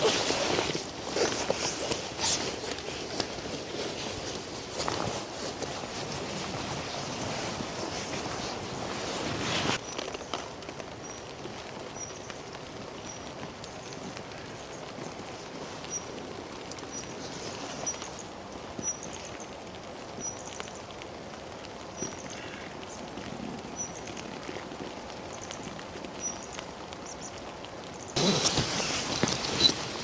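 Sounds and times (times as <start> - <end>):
steady rain in forest: 0.0 - 30.0.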